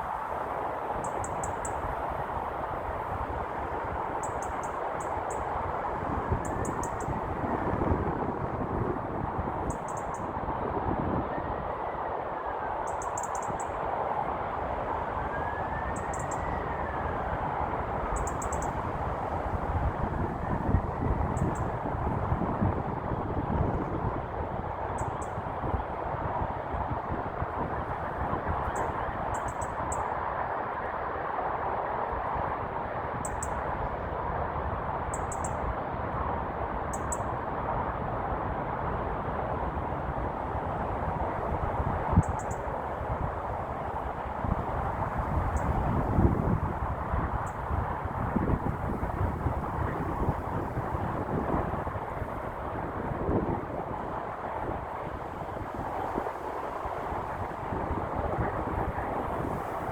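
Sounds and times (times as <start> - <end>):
low rushing outdoor noise: 0.0 - 59.9.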